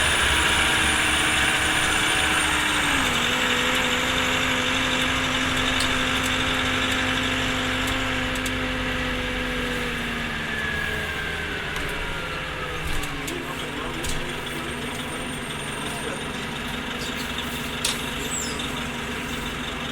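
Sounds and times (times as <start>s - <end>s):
bus engine humming and whining: 0.0s - 19.9s.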